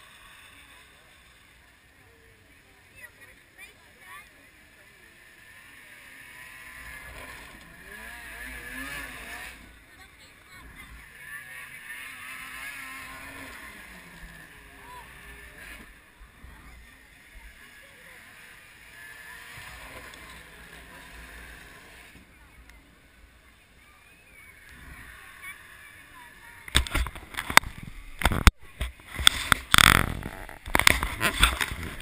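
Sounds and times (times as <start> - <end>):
faint background murmur: 0.0 - 32.0.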